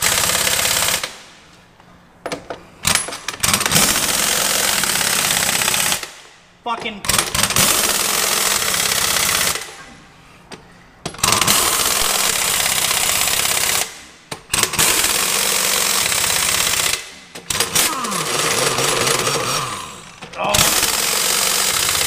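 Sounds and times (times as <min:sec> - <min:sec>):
pneumatic impact wrench hammering: 0:00.0 - 0:01.2, 0:02.4 - 0:06.3, 0:07.0 - 0:09.8, 0:11.1 - 0:22.0.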